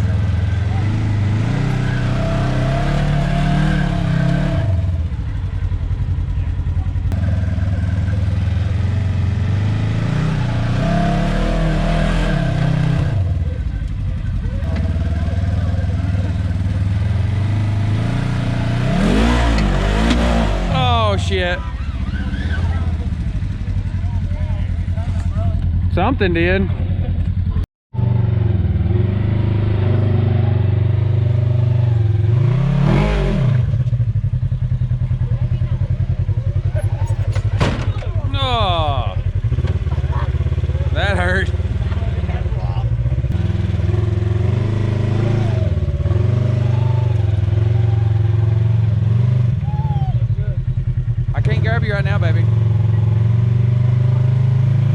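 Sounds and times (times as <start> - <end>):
utility vehicle engine revving: 0.0 - 54.9.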